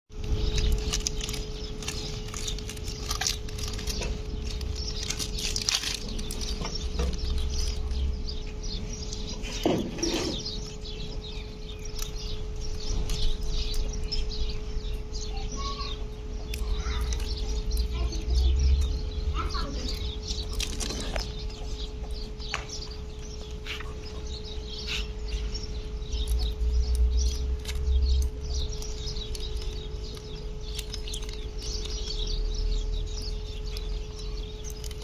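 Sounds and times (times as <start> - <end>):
birds chirping: 0.1 - 35.0.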